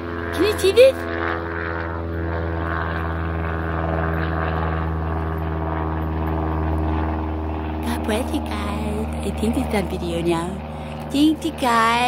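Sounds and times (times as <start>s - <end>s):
propeller plane droning overhead: 0.0s - 12.0s.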